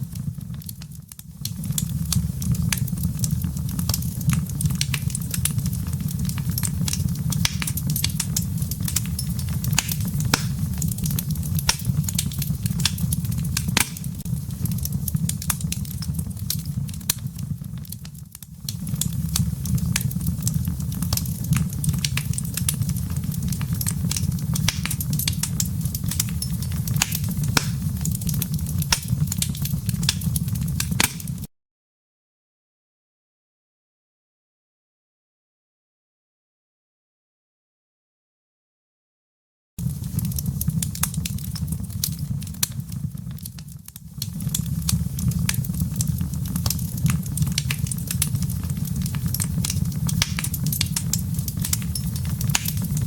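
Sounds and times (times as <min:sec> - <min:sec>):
fireplace fire crackling: 0:00.0 - 0:31.5, 0:39.8 - 0:53.0.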